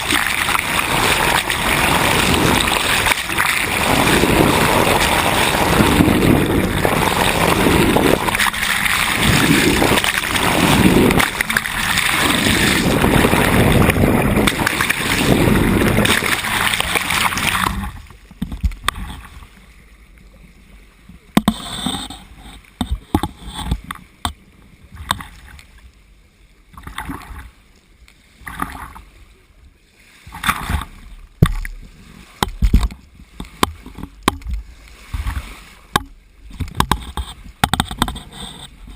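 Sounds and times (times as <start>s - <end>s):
water slapping against hull: 0.0s - 19.8s, 21.2s - 25.8s, 26.7s - 27.6s, 28.3s - 29.2s, 30.0s - 38.9s
rush of water and wind: 0.0s - 38.9s.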